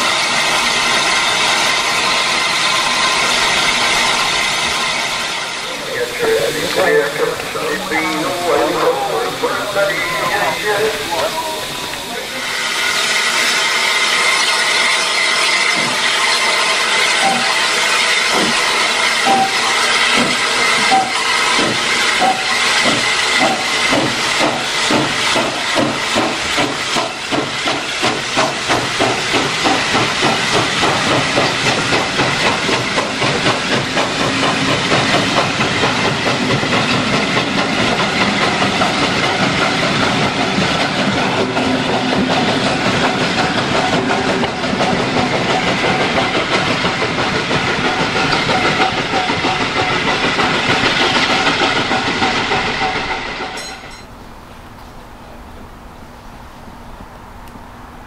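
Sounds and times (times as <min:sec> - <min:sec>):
hiss of steam: 0:00.0 - 0:53.6
steam locomotive exhaust beats: 0:00.0 - 0:58.0.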